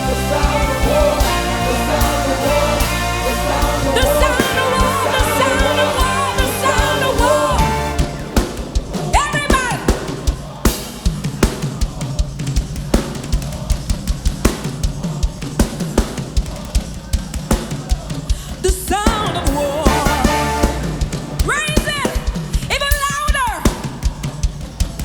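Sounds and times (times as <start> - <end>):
worship band with singing: 0.0 - 12.5, 14.6 - 24.8
drum kit beat: 0.0 - 25.0.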